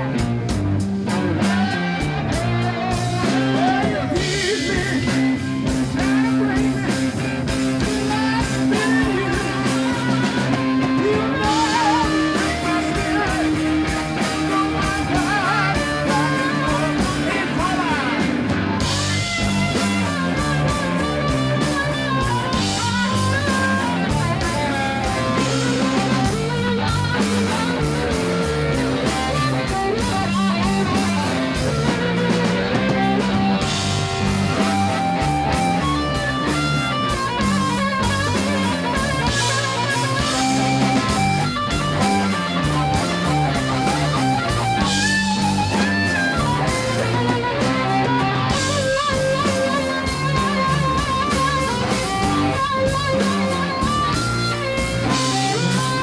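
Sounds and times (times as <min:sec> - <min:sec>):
blues harmonica: 0:00.0 - 0:56.0
drums: 0:00.0 - 0:56.0
electric guitar: 0:00.0 - 0:56.0.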